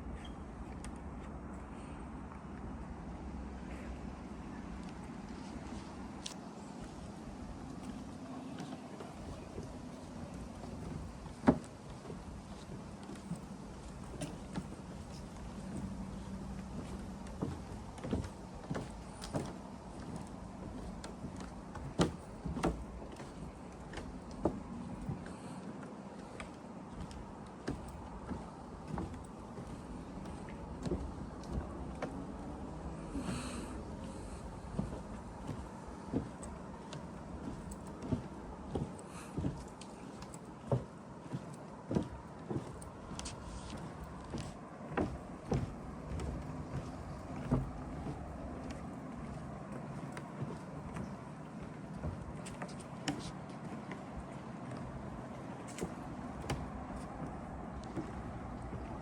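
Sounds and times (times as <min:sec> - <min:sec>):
footsteps knocking and creaking: 0:04.8 - 0:59.0.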